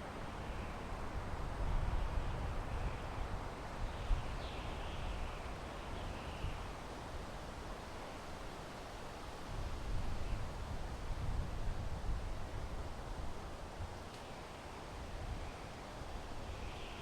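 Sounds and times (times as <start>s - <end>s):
wind through pine trees: 0.0s - 17.0s.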